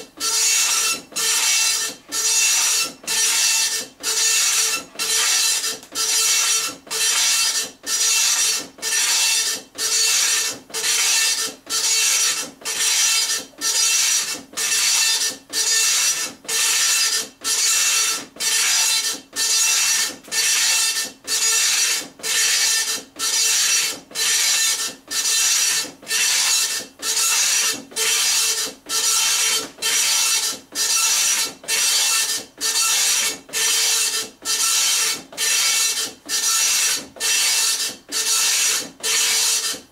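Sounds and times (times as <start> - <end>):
dot matrix printer buzzing: 0.2 - 39.9.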